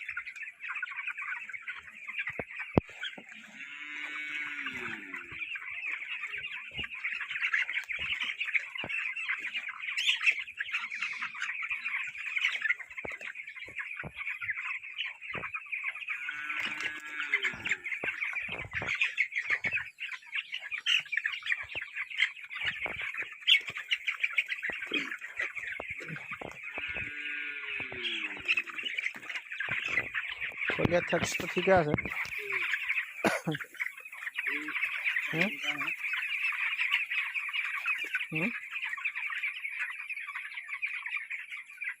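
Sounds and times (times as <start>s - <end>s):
chicks cheeping: 0.0s - 42.0s.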